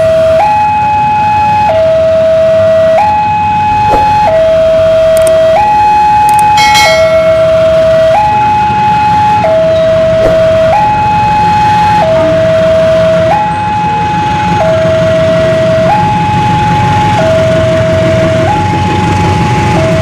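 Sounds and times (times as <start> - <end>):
diesel locomotive rumble: 0.0 - 20.0
level crossing alarm two-tone: 1.6 - 18.6.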